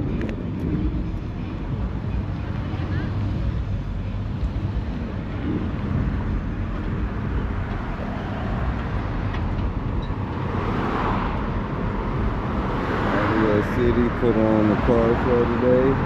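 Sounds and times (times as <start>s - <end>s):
car engines rumbling: 0.0s - 16.0s.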